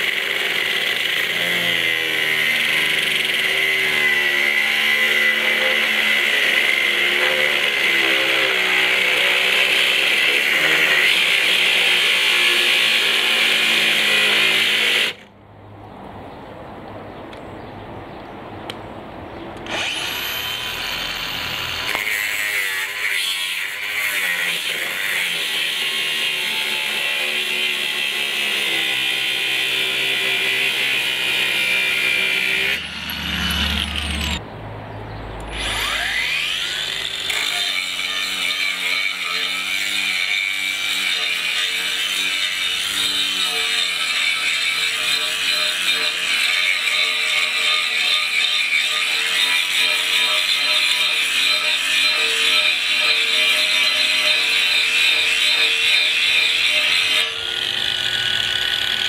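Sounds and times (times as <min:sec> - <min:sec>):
angle grinder cutting steel: 0:00.0 - 0:15.3, 0:19.6 - 0:34.4, 0:35.4 - 0:59.0.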